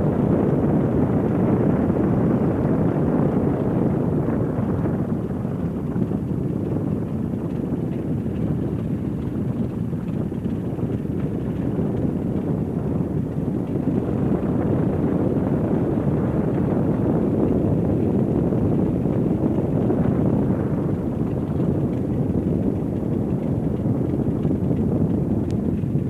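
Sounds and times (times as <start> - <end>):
propeller plane engine running: 0.0 - 26.0
wind rushing over microphone: 0.0 - 26.0.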